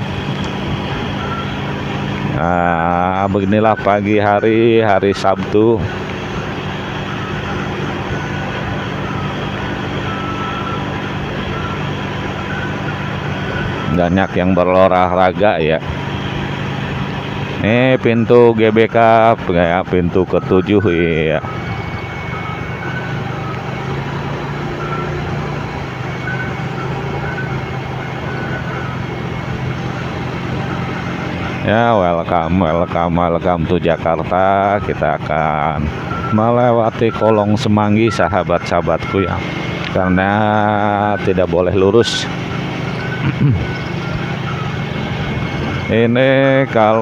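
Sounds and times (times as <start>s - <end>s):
motorcycle engine running: 0.0s - 47.0s
wind and road noise: 0.0s - 47.0s.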